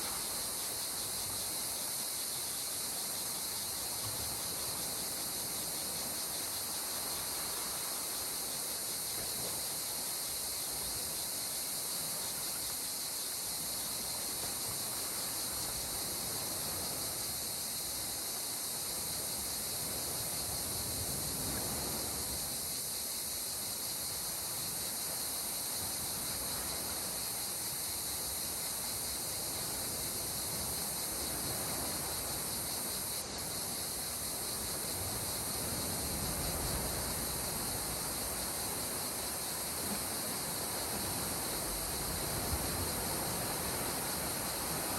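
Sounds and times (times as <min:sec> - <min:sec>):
steady high-pitched hiss: 0:00.0 - 0:44.9.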